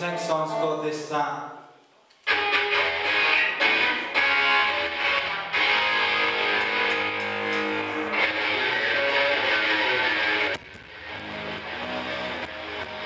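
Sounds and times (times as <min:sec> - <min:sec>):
strummed electric guitars: 0:02.2 - 0:13.0
live rock band playing: 0:02.3 - 0:13.0.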